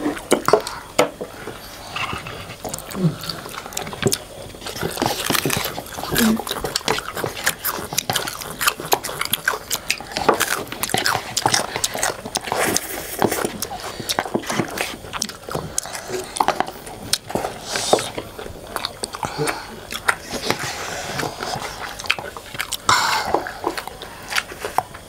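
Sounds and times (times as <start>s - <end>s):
people chewing crunchy food: 0.0s - 25.0s.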